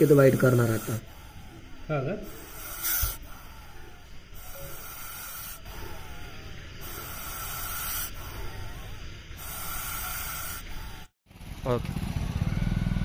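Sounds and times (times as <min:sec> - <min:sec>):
snake hissing: 0:00.0 - 0:11.2.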